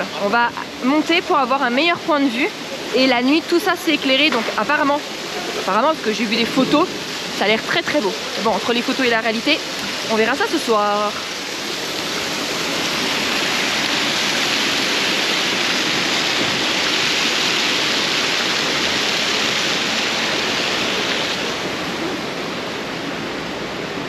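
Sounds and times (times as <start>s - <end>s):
water rushing down wooden channels: 0.0s - 24.0s.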